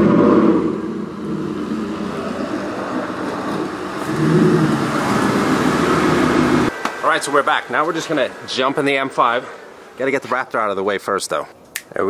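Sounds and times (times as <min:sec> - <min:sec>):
pickup truck engine driving up: 0:00.0 - 0:10.0.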